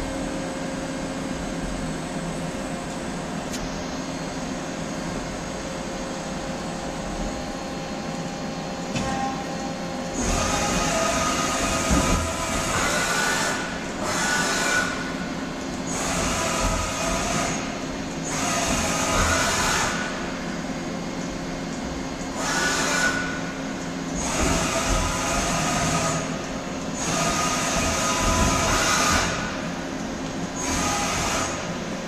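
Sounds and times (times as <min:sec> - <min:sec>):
machine mechanical hum: 0:00.0 - 0:32.0.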